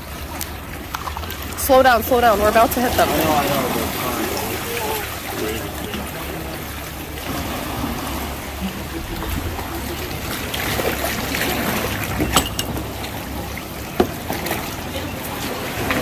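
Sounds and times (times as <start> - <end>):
kayak paddles splashing: 0.0 - 16.0
water sloshing against hull: 0.0 - 16.0.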